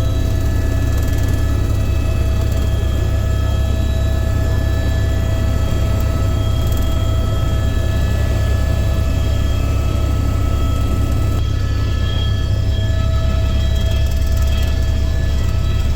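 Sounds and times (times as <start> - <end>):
helicopter rotor rumble: 0.0 - 15.9
high whining tones: 0.0 - 15.9.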